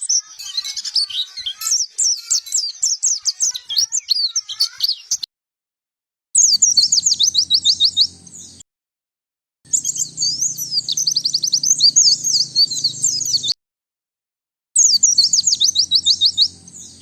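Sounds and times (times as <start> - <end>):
bird twittering song: 0.0 - 5.3, 6.4 - 8.6, 9.7 - 13.6, 14.8 - 17.0.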